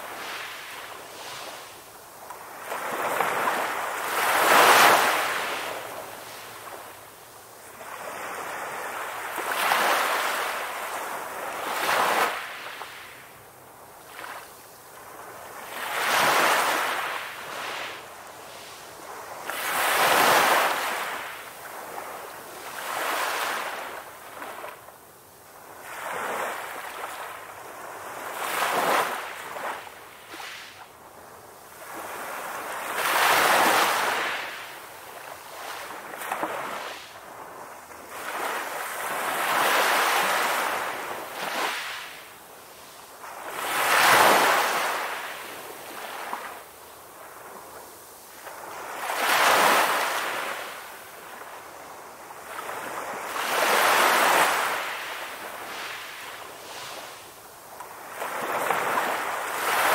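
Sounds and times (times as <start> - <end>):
waves breaking on shore: 0.0 - 13.3, 14.1 - 24.8, 25.6 - 30.9, 31.6 - 59.9.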